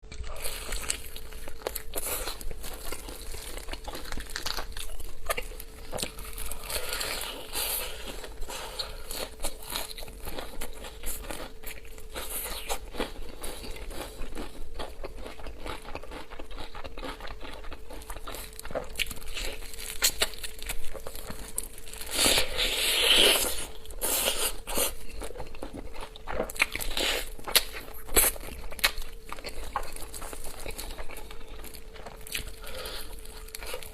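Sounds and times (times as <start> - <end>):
faint steady hum: 0.0 - 33.9
fried chicken crunching: 0.1 - 33.9.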